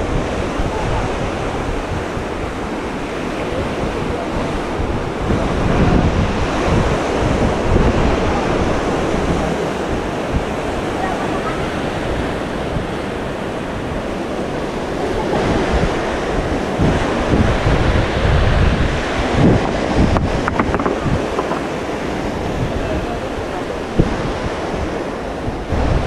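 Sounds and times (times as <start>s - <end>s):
sea waves washing ashore: 0.0s - 26.0s
wind rumbling on microphone: 0.0s - 26.0s.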